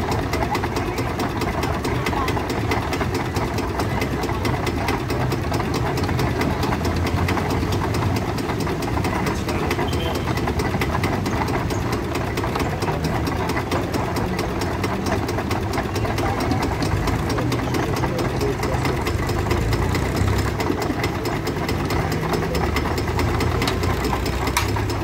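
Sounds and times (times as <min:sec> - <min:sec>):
diesel tractor engine knocking: 0:00.0 - 0:25.0.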